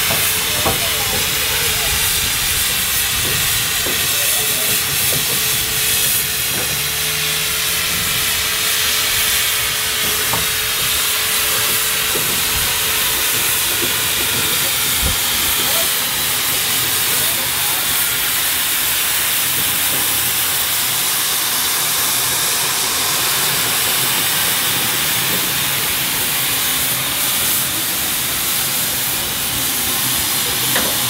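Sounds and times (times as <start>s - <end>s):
steam hissing: 0.0s - 31.0s.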